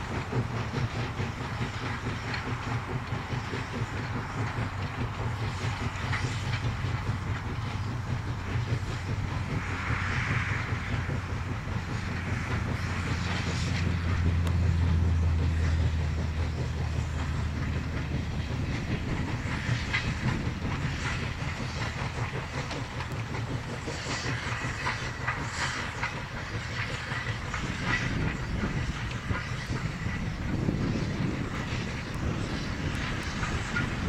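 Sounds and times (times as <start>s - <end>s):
distant steam train rumble: 0.0s - 34.0s
wheels clicking over rail joints: 0.0s - 34.0s.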